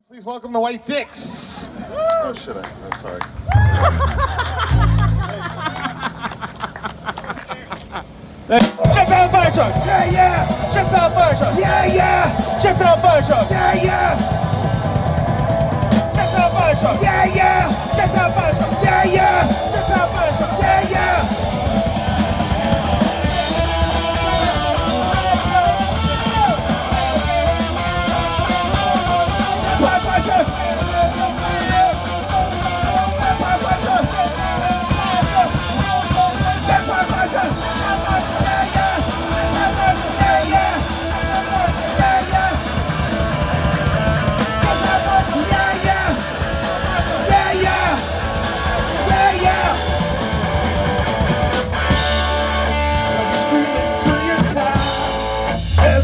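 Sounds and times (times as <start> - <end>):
electric bass: 3.3 - 6.2, 8.3 - 56.0
drum kit: 8.1 - 56.0
electric guitar: 8.6 - 56.0.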